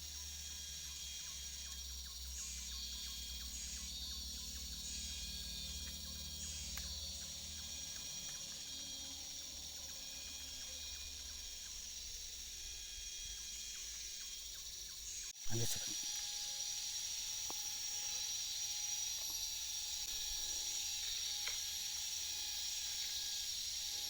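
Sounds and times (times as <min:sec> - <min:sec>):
insects chorus shrill hiss: 0:00.0 - 0:24.0.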